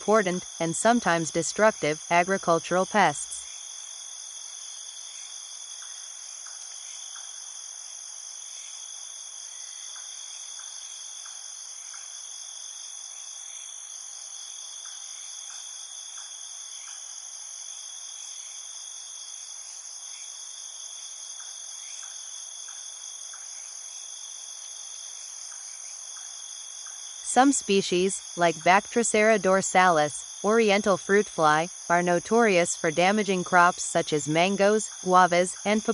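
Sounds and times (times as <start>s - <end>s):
insects trilling: 0.0s - 35.9s.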